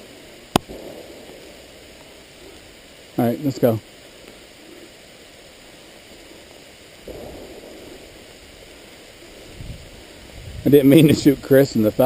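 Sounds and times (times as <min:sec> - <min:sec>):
rain falling: 0:00.0 - 0:12.0
rustle: 0:00.0 - 0:12.0.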